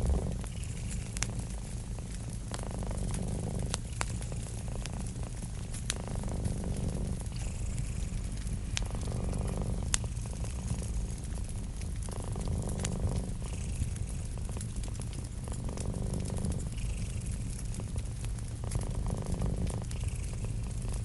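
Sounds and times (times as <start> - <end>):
wood fire crackling pops: 0.0 - 7.4, 8.0 - 21.0
cat purring: 0.0 - 21.0.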